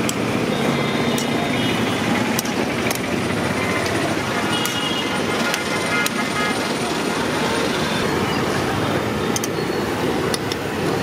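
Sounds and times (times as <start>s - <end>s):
roadside traffic noise: 0.0s - 11.0s.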